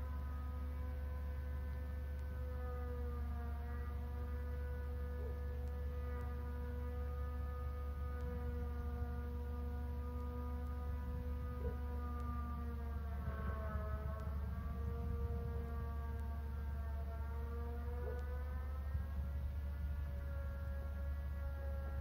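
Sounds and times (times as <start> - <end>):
faint wavering drawn-out tone: 0.0 - 22.0
low electrical hum: 0.0 - 22.0.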